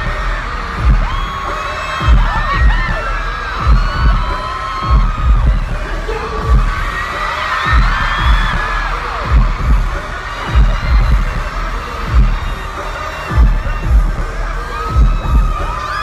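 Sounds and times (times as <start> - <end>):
crowd screaming: 0.0 - 16.0
pop concert music with bass: 0.0 - 16.0.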